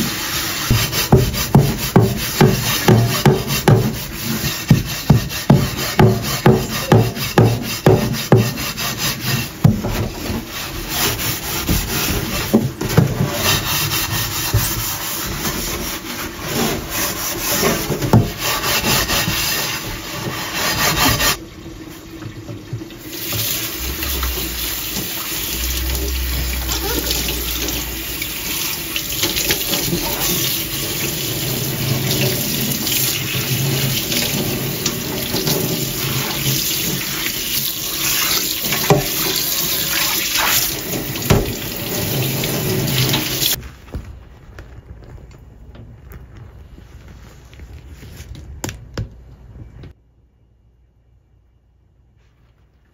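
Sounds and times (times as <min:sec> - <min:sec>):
tap water running: 0:00.0 - 0:43.6
scrubbing frying pan: 0:00.0 - 0:43.7.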